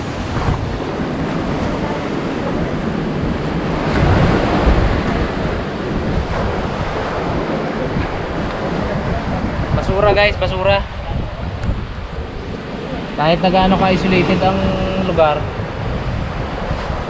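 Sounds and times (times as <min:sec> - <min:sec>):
surf washing on shore: 0:00.0 - 0:17.0
wind on microphone: 0:00.0 - 0:17.0.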